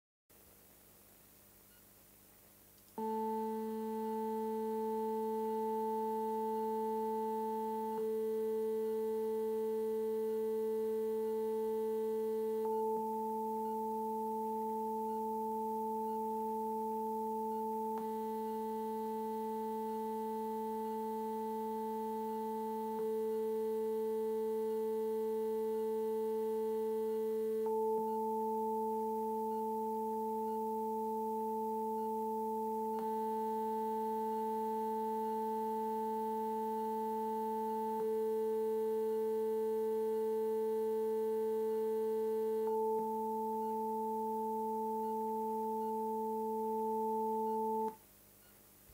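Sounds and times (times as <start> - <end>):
electronic sine test tones: 3.0 - 48.6.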